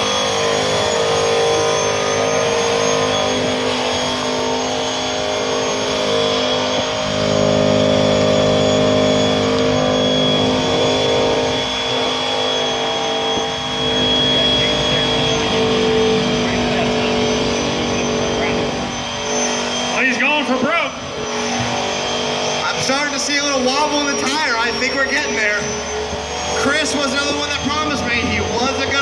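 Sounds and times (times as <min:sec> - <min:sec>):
engine at high revs: 0:00.0 - 0:29.0
high-pitched whine: 0:00.0 - 0:29.0.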